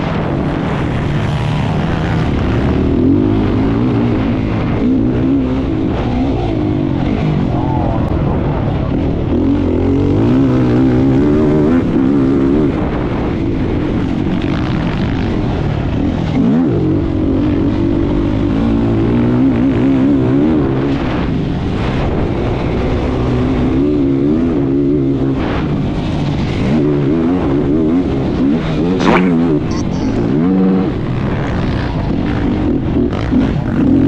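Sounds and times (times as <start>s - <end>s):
racing engine at high revs: 0.0s - 34.0s.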